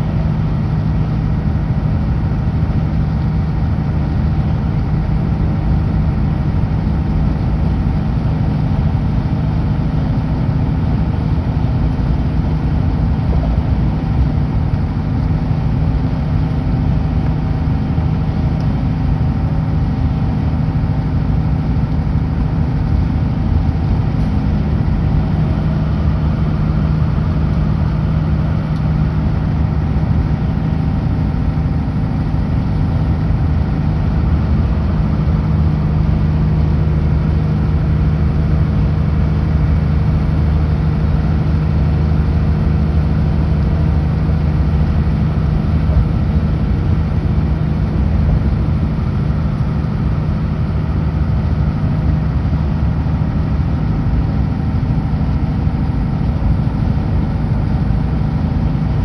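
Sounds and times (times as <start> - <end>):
truck diesel engine humming: 0.0 - 59.0.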